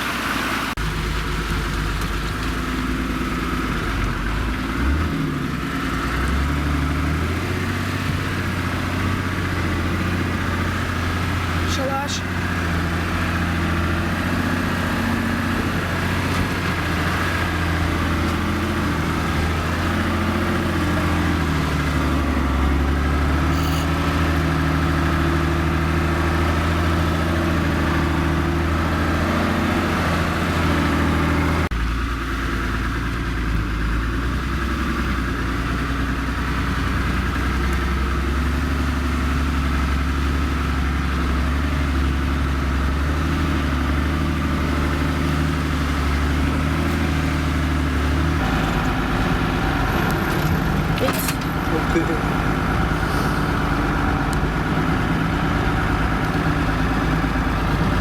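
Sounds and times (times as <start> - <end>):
vehicle engine at low revs: 0.0 - 58.0.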